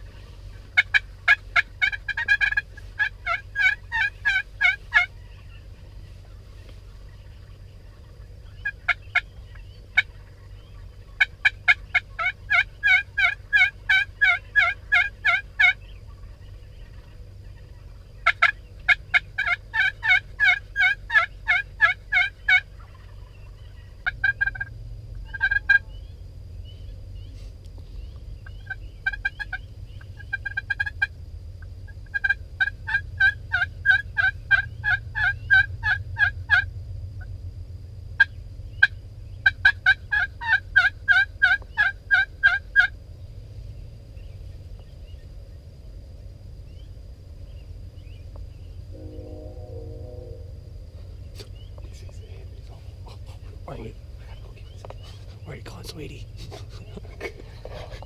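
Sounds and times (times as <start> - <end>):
wild turkeys calling: 0.0 - 37.3, 38.2 - 58.0.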